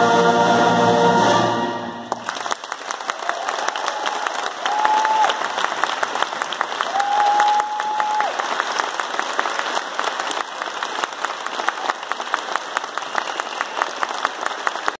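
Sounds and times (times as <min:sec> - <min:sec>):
audience applauding: 0:02.1 - 0:15.0.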